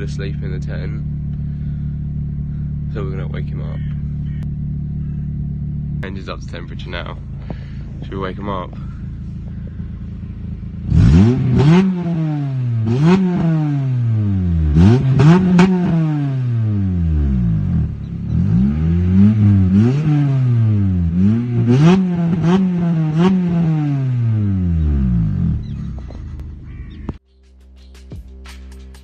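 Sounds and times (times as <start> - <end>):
car engine revving: 0.0 - 27.2
exhaust cracks: 0.0 - 29.0.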